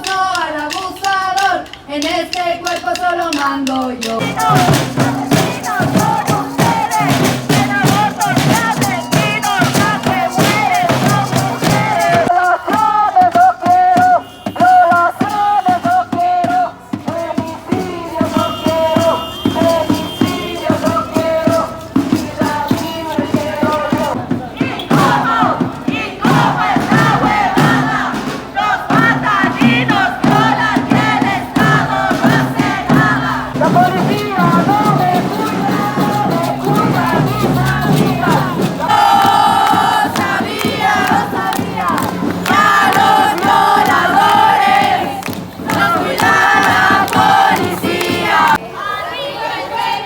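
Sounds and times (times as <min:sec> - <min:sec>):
drums beating: 0:00.0 - 0:48.6
crowd chanting: 0:04.2 - 0:50.0.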